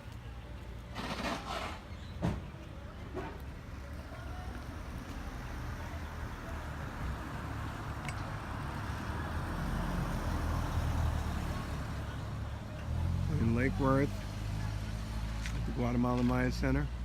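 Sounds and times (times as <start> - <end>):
motor vehicle running: 0.0 - 17.0
road noise: 0.0 - 17.0.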